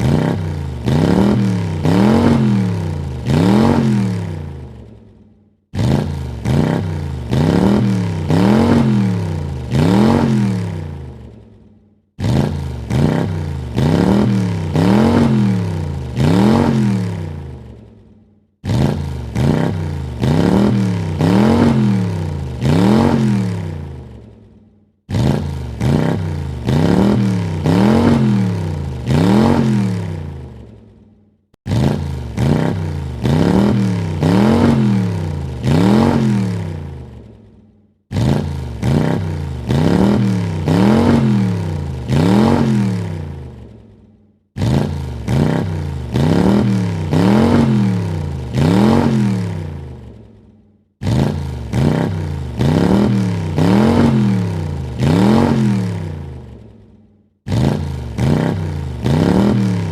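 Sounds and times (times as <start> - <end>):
car engine revving: 0.0 - 5.0, 5.7 - 11.4, 12.2 - 18.0, 18.6 - 24.4, 25.1 - 30.8, 31.6 - 37.4, 38.1 - 43.8, 44.6 - 50.3, 51.0 - 56.7, 57.5 - 59.9.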